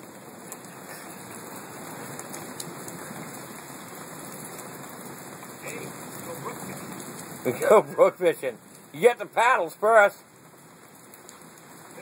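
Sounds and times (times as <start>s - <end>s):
rain on wet pavement: 0.0s - 12.0s.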